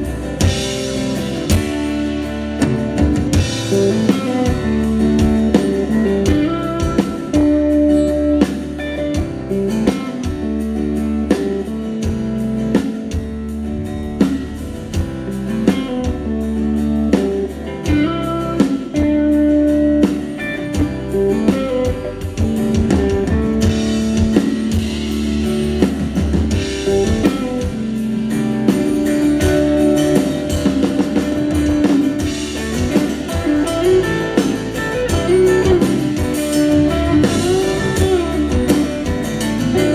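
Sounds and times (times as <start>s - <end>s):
acoustic guitar: 0.0s - 39.9s
drum kit: 0.0s - 39.9s
electric guitar: 0.0s - 39.9s.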